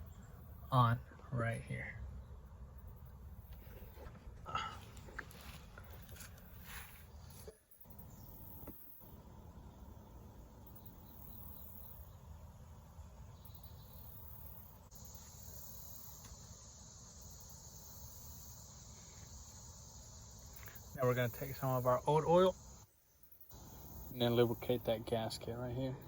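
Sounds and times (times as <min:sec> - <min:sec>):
insects chirring: 0:02.6 - 0:26.0.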